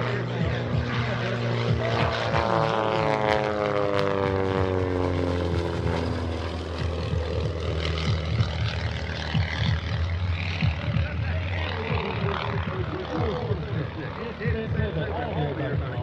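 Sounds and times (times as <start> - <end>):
biplane engine and propeller: 0.0 - 16.0.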